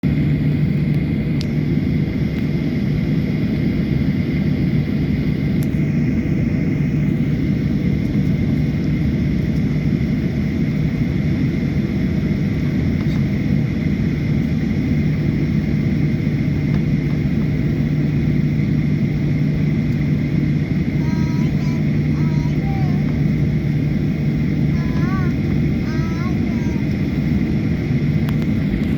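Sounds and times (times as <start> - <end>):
high whine: 0.0 - 28.9
jet engines running at low power: 0.0 - 28.9.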